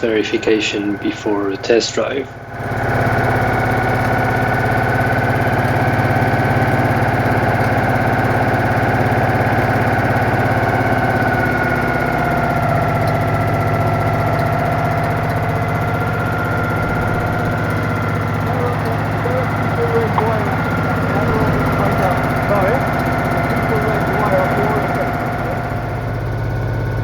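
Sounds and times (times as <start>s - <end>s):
air-cooled engine running: 0.0s - 27.0s.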